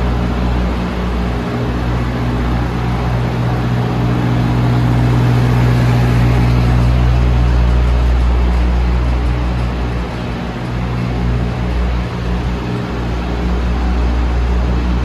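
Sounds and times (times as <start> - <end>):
lorry diesel engine running: 0.0 - 15.0.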